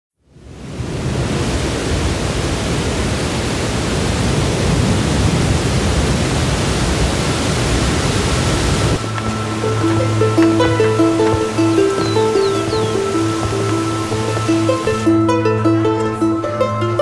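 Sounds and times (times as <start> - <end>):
waterfall rushing: 0.6 - 15.2.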